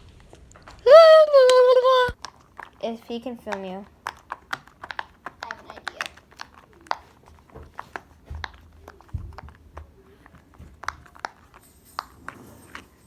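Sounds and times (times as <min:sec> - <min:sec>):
fidget toys clicking: 0:00.9 - 0:12.1.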